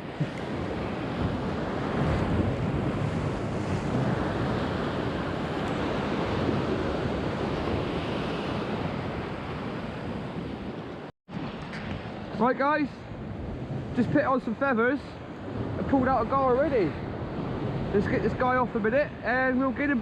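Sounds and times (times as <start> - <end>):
sea surf washing against rocks: 0.0 - 20.0
wind buffeting microphone: 0.0 - 20.0.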